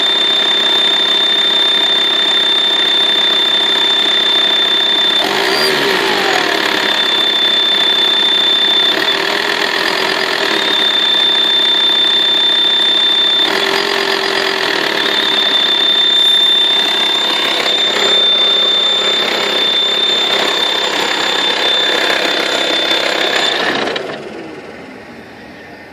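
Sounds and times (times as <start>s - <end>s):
high-pitched whistle: 0.0s - 24.1s
diesel engine idling: 0.0s - 25.9s.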